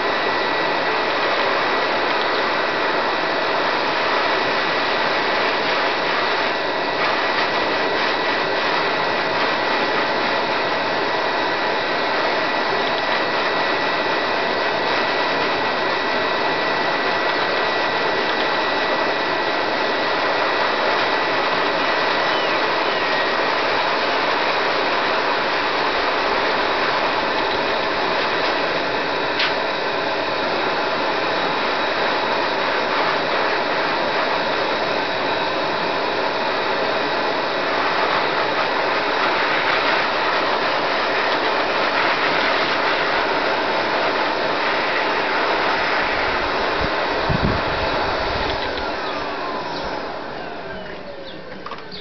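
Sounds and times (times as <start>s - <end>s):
dog dryer blowing air: 0.0s - 52.0s.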